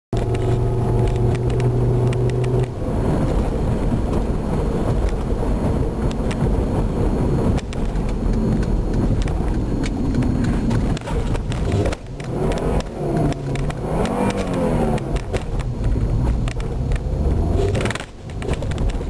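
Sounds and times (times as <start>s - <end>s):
car driving rumble: 0.1s - 19.0s.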